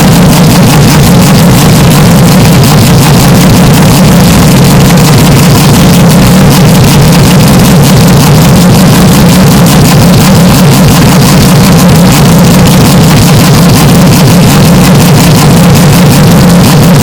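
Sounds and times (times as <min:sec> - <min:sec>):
distorted race car engine drone: 0:00.0 - 0:17.0.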